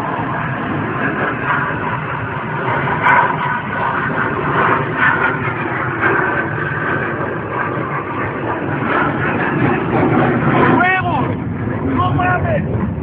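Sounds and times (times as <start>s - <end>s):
jet flying overhead: 0.0s - 13.0s.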